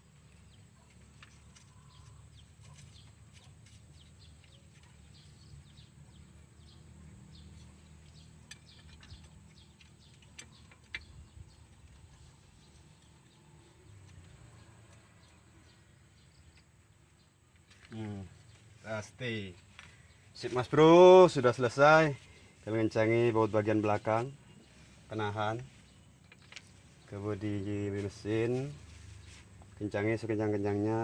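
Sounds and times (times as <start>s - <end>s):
faint bird chirps: 0.1s - 31.0s.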